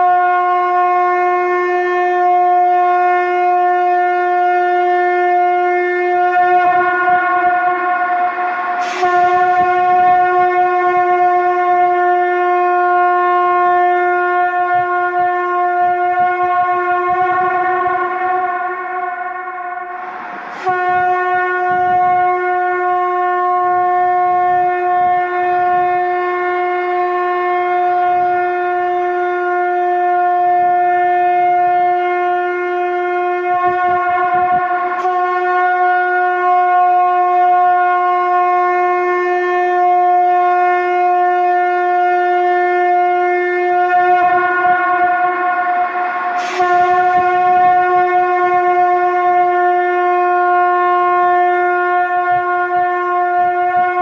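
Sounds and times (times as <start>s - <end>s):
conch shell blasts: 0.0s - 54.0s.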